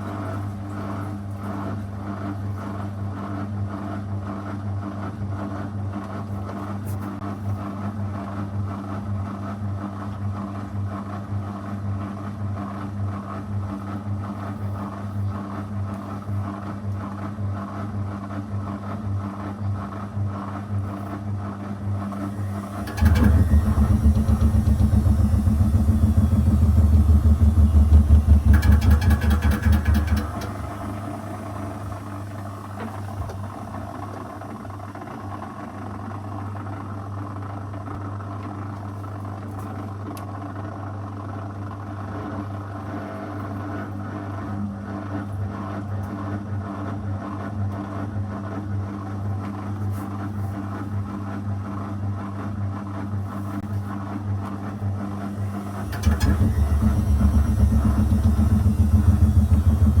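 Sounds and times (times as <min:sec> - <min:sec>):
washing machine humming: 0:00.0 - 0:38.8, 0:41.9 - 1:00.0
motor turning washing drum: 0:00.0 - 1:00.0.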